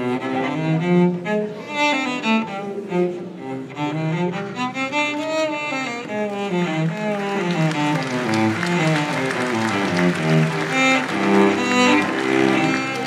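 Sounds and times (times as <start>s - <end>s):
bowed cello melody: 0.0s - 13.0s.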